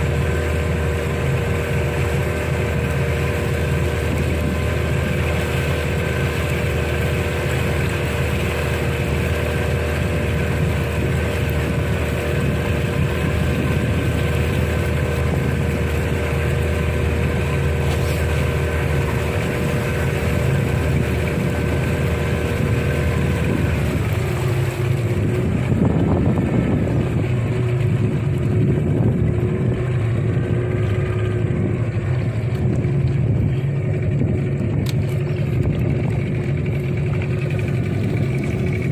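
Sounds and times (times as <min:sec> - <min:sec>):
boat motor running: 0:00.0 - 0:38.9.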